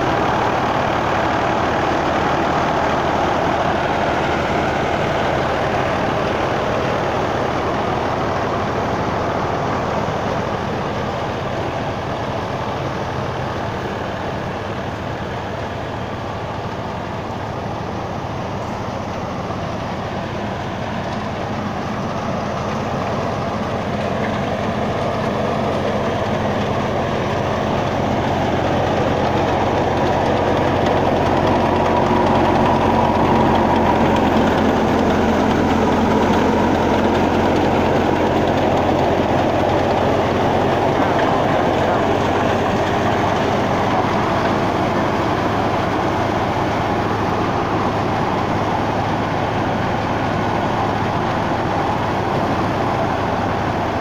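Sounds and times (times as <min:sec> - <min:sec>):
thresher running: 0:00.0 - 0:54.0
tractor diesel engine under load: 0:00.0 - 0:54.0.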